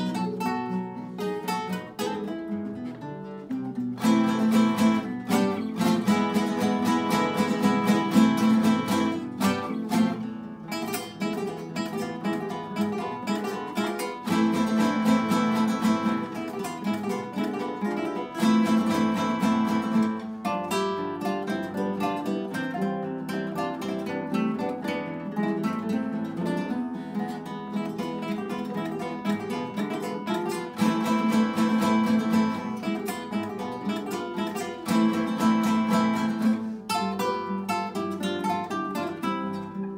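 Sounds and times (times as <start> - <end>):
classical guitars playing: 0.0 - 39.9.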